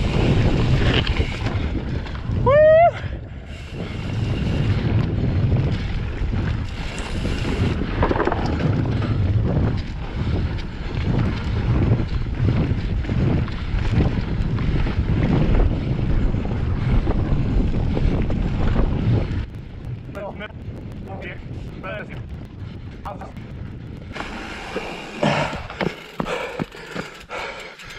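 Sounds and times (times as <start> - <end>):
wind rushing over microphone: 0.0 - 27.4
bike rattling over bumps: 0.0 - 27.9.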